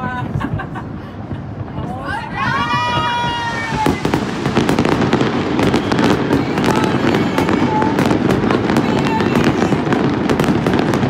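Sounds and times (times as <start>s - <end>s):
fireworks bangs and crackles: 0.0s - 11.0s
rumble of fireworks bursts: 0.0s - 11.0s.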